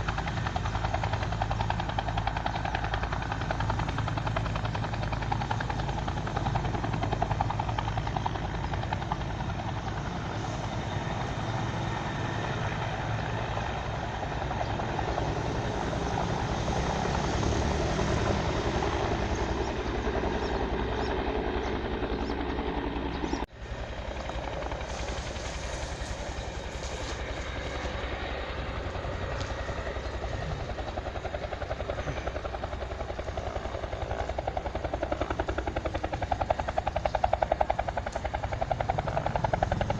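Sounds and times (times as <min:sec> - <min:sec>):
helicopter rotor chopping: 0:00.0 - 0:39.9
helicopter turbine noise: 0:00.0 - 0:39.9.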